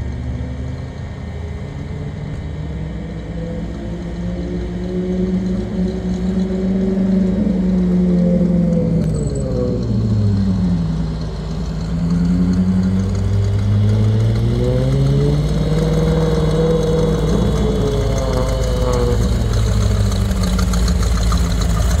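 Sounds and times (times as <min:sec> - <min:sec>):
pickup truck engine running: 0:00.0 - 0:22.0.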